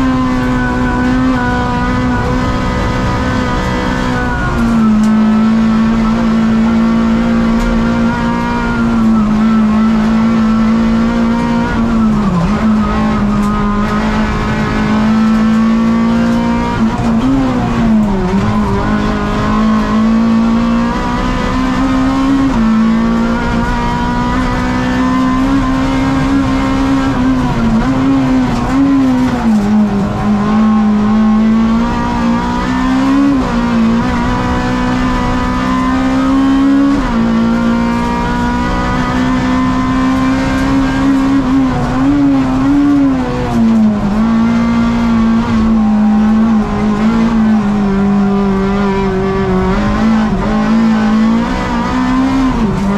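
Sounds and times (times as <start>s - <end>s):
race car engine revving through gears: 0.0s - 52.9s.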